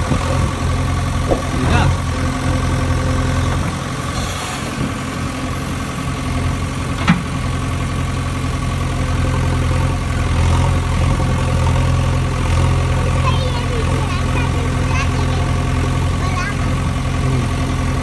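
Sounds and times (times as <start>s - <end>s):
heavy engine idling rumble: 0.0s - 18.0s.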